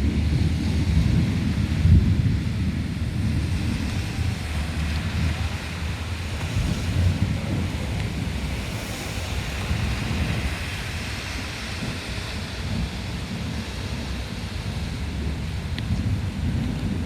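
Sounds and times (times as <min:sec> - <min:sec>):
pouring rain: 0:00.0 - 0:17.0
wind rumbling on microphone: 0:00.0 - 0:17.0.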